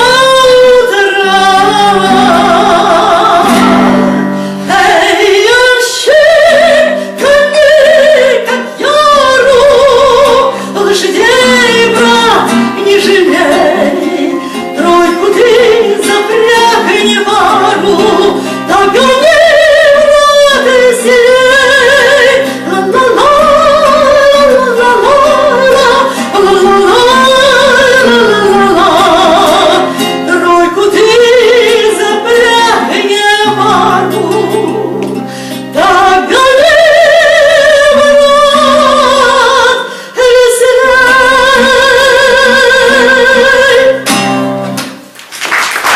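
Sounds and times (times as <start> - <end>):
woman singing with vibrato: 0.0 - 44.7.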